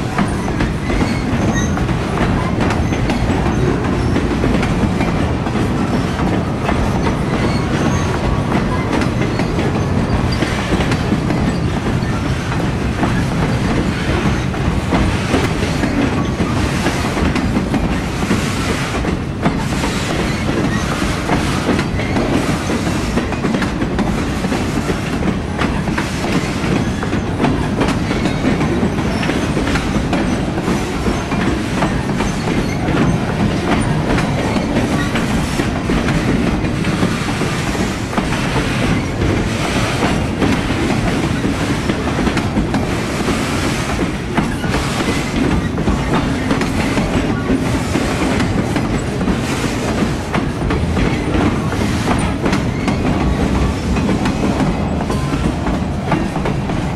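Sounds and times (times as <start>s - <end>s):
steel wheels rumbling on rail: 0.0s - 56.9s
wheels clickety-clack over track: 0.0s - 56.9s.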